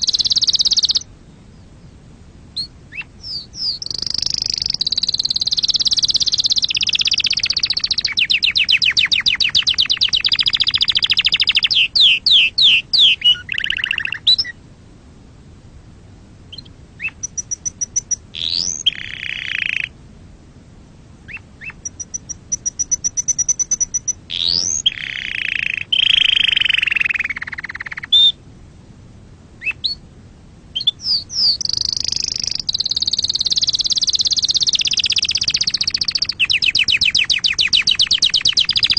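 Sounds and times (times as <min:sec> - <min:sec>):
canary trilling song: 0:00.0 - 0:01.1, 0:02.6 - 0:14.6, 0:16.5 - 0:20.0, 0:21.3 - 0:28.4, 0:29.6 - 0:30.0, 0:30.7 - 0:38.9.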